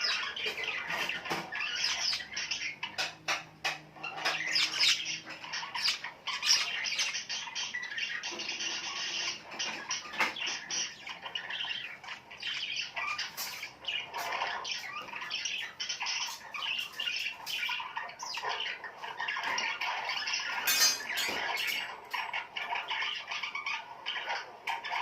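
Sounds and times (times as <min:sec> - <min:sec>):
small birds chirping and squawking: 0:00.0 - 0:25.0.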